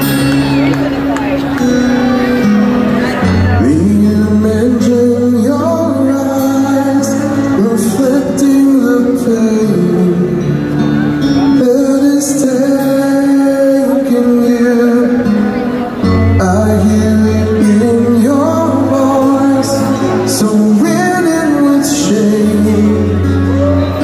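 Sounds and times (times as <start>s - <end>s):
acoustic guitar: 0.0s - 24.0s
man singing into a microphone: 3.2s - 24.0s.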